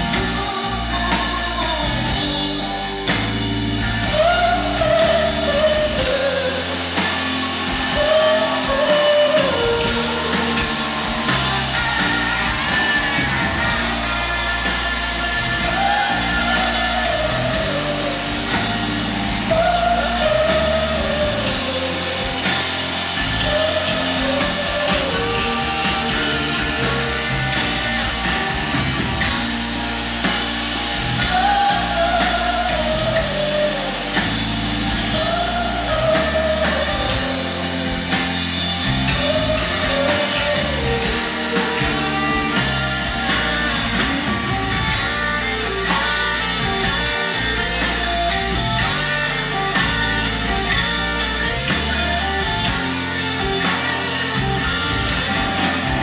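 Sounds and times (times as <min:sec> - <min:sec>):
crowd: 0:00.0 - 0:56.0
live rock band: 0:00.0 - 0:56.0
voices singing long notes: 0:00.0 - 0:56.0.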